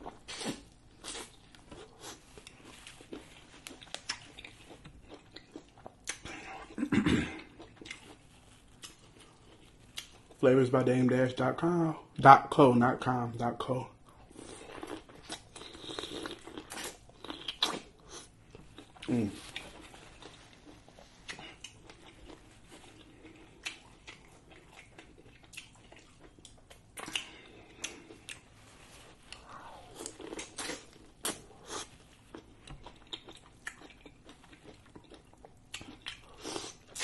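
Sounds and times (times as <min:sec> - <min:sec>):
person biting and chewing corn: 0:00.0 - 0:06.7, 0:07.4 - 0:10.4, 0:14.2 - 0:37.0.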